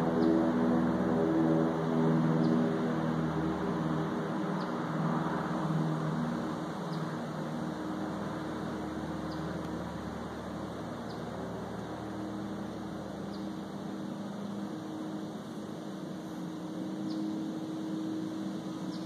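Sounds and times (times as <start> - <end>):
propeller airplane flying over: 0.0 - 19.0.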